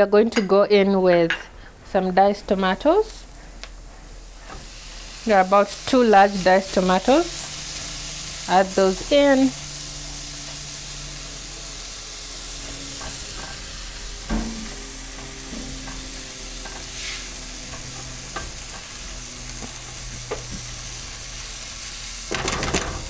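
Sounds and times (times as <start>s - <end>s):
tomatoes sizzling in a pan: 1.2s - 23.0s.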